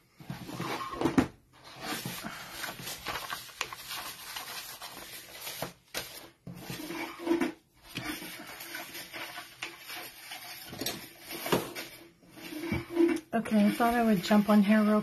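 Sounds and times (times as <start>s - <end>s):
paper rustling and sliding: 0.2s - 15.0s.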